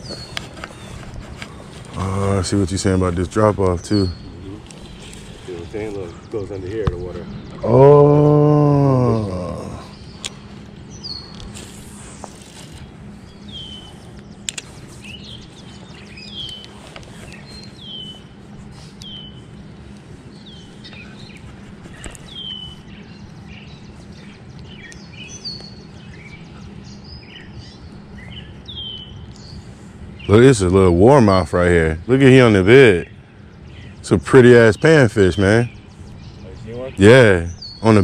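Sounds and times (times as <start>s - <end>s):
bird chirping: 0.0s - 38.0s
scattered bird calls: 0.0s - 38.0s
steady low hum: 0.0s - 38.0s.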